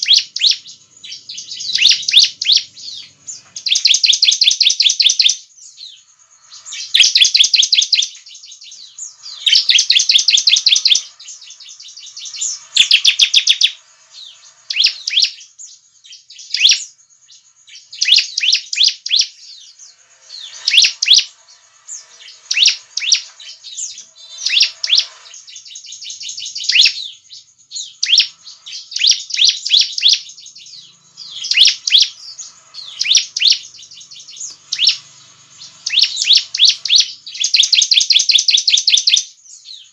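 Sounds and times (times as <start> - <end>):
bird trilling and chirping: 0.0 - 39.9.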